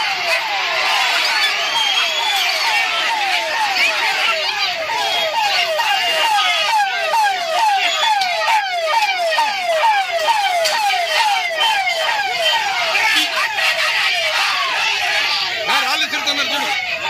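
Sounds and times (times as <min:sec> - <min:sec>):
police siren wailing: 0:00.0 - 0:17.0.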